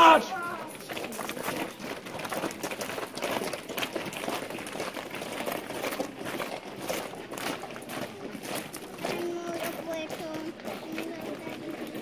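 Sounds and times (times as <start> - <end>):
booted footsteps on gravel: 0.0 - 12.0.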